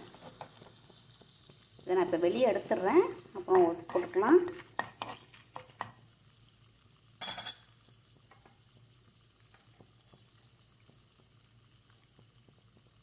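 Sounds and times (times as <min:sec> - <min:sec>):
seeds crackling and popping in oil: 0:00.0 - 0:13.0.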